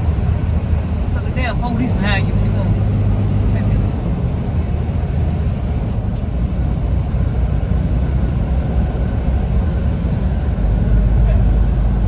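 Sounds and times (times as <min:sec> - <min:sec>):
truck diesel engine droning: 0:00.0 - 0:12.0
tyre and road noise: 0:00.0 - 0:12.0.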